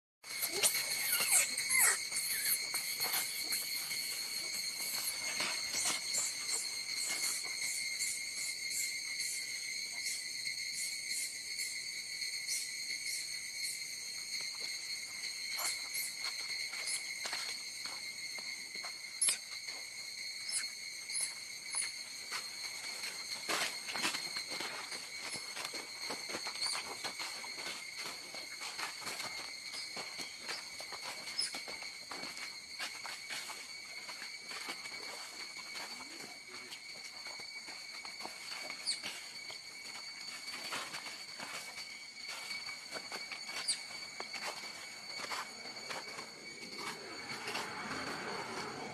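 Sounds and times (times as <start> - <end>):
high-pitched insect drone: 0.2 - 48.9.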